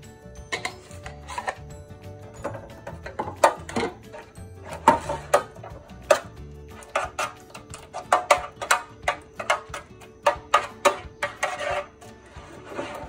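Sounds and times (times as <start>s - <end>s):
background music: 0.0s - 13.0s
metal spoon scraping baking pan: 0.4s - 13.0s.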